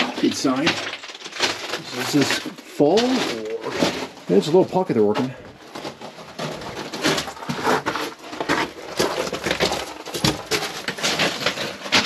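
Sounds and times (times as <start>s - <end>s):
footsteps crunching on rubble: 0.0s - 12.0s.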